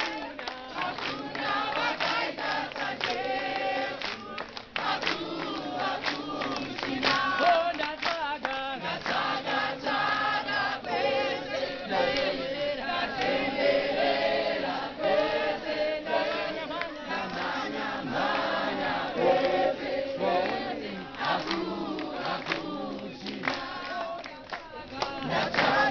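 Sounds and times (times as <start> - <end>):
hand-clapping: 0.0 - 12.5, 13.1 - 25.9
crowd singing in chorus: 0.0 - 25.9.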